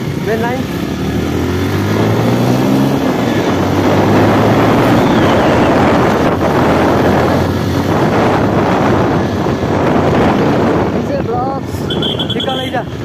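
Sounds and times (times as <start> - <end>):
motorbike engine humming: 0.0 - 13.0
wind rushing over microphone: 0.0 - 13.0.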